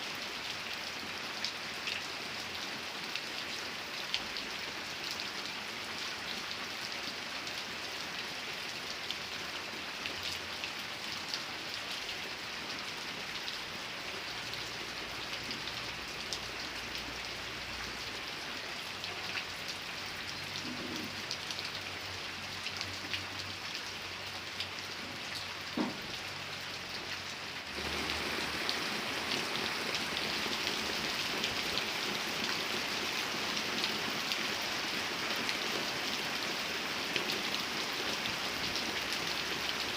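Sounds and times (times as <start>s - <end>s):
steady rain falling: 0.0s - 39.9s
raindrops ticking on a surface: 7.4s - 39.9s.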